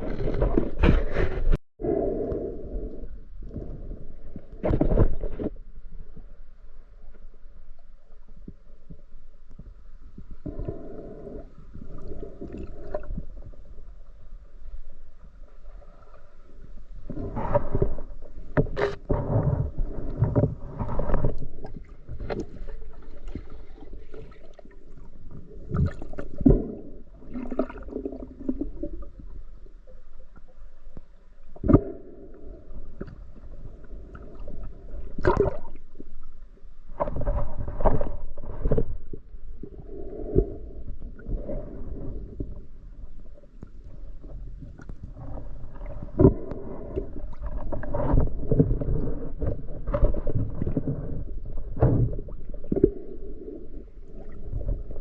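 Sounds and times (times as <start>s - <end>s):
water sloshing and gurgling: 0.0s - 55.0s.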